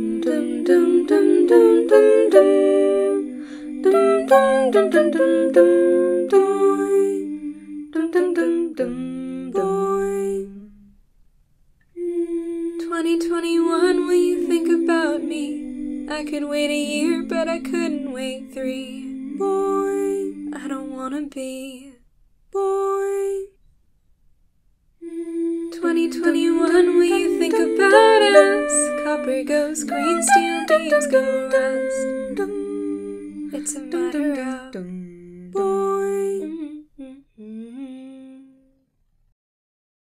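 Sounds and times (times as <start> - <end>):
voices singing in harmony: 0.0 - 10.8, 12.0 - 21.8, 25.0 - 38.3.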